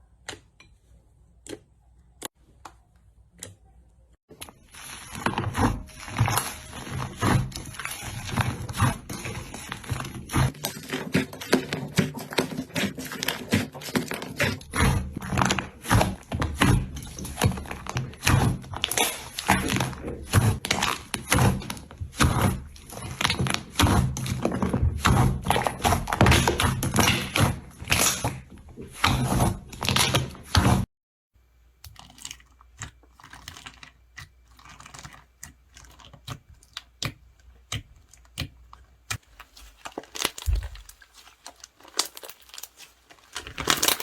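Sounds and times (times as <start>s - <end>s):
slime squelching and popping: 1.2s - 30.6s, 31.8s - 44.0s.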